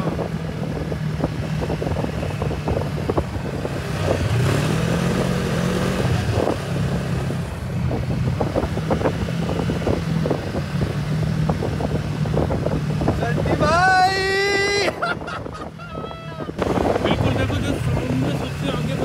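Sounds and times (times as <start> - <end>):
snowmobile engine running: 0.0 - 19.0
wind buffeting microphone: 0.0 - 19.0.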